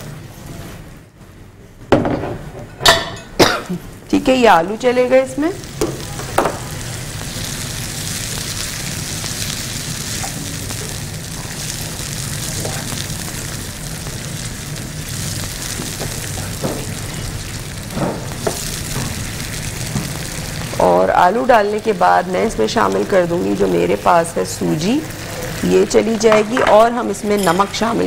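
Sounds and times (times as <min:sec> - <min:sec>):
potato sizzling in frying pan: 0:04.1 - 0:28.0.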